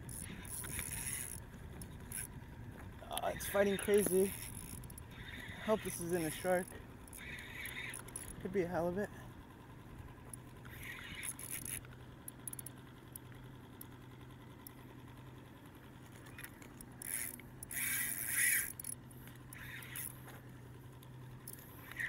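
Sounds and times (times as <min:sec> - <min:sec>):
fishing reel and line scratching: 0:00.0 - 0:09.1, 0:09.9 - 0:14.9, 0:16.0 - 0:22.0
steady low hum: 0:00.0 - 0:22.0.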